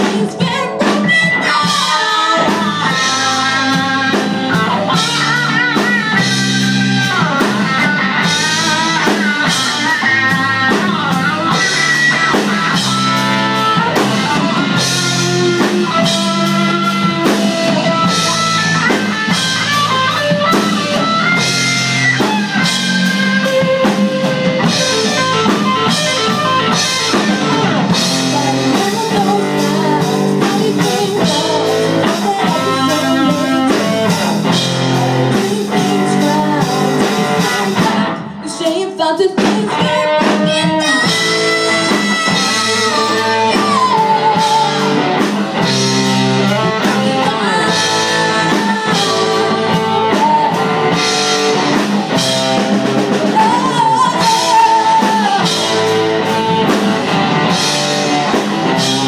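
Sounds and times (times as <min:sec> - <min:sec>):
hard rock band playing live: 0:00.0 - 0:59.0.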